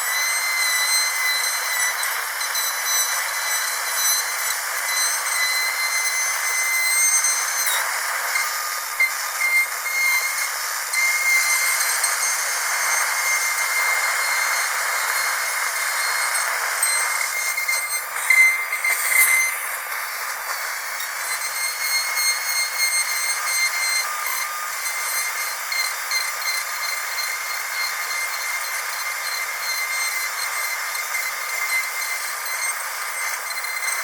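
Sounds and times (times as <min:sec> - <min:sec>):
dentist's drill whine: 0:00.0 - 0:34.0
hiss: 0:00.0 - 0:34.0.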